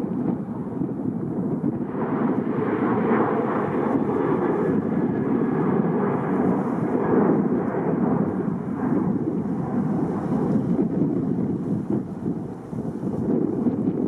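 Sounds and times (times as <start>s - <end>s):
jet engines rushing: 0.0s - 14.0s
wind buffeting microphone: 0.0s - 14.0s.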